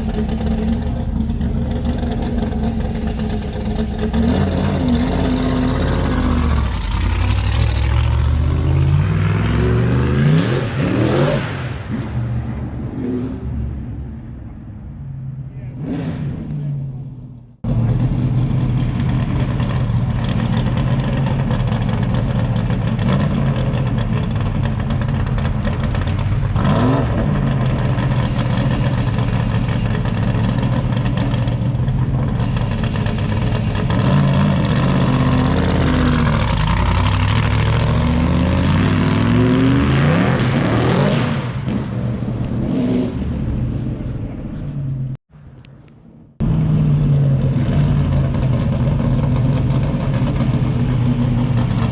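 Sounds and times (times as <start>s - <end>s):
car engine revving: 0.0s - 45.2s.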